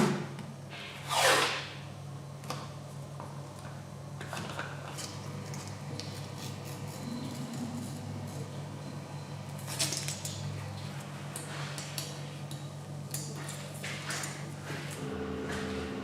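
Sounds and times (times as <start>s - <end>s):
steady low hum: 1.7s - 16.0s.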